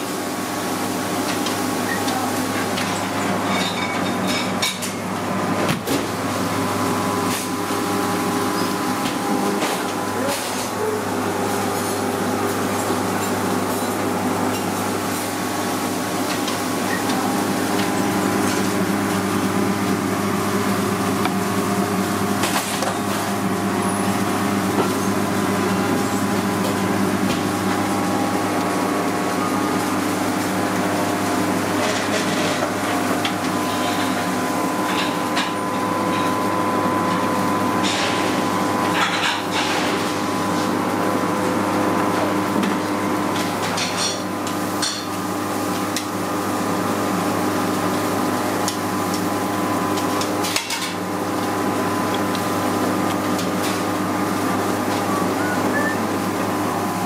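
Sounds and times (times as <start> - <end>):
kitchen machinery hum: 0.0 - 57.0.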